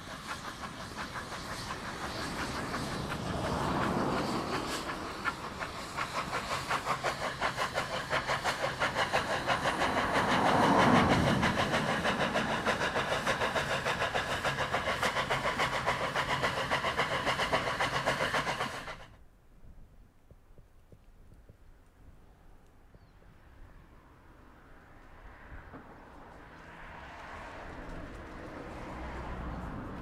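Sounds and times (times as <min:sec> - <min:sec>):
steam locomotive exhaust beat: 0:00.0 - 0:19.2, 0:25.0 - 0:30.0.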